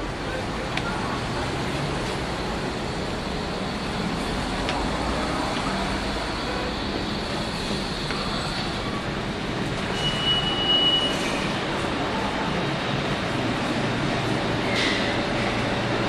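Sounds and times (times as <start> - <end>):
subway train rumble: 0.0 - 16.0.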